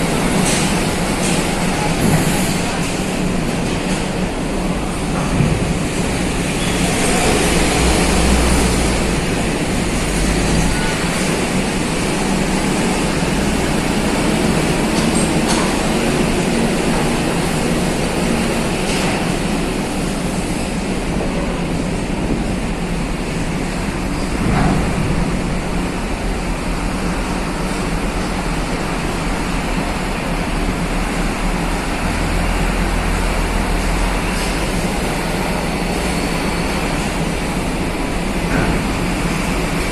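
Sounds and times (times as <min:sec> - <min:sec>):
mechanical rumble and roar: 0:00.0 - 0:39.9.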